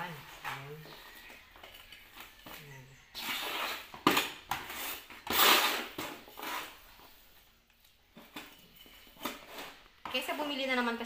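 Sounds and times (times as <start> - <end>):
hand trowel scraping potting media: 0.0 - 7.5, 8.1 - 11.0.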